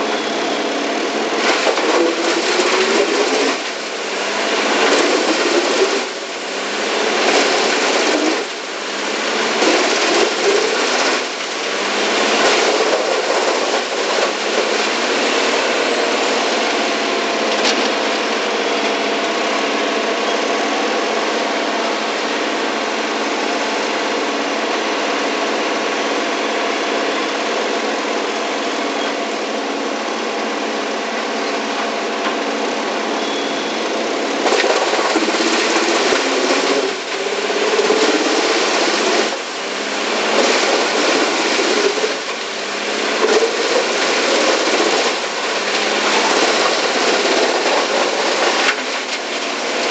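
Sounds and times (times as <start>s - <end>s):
chipper engine running: 0.0s - 49.9s
wood chipper shredding wood: 0.0s - 49.9s.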